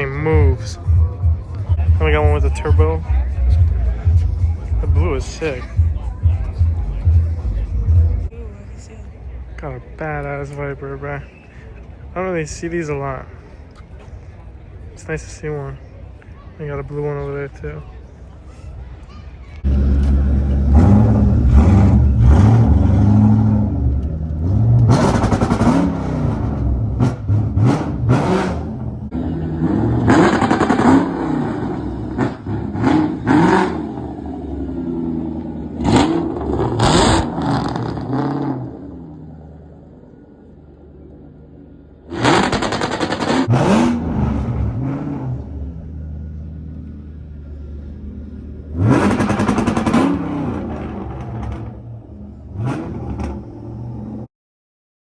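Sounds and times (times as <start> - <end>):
car engines revving: 0.0 - 54.3.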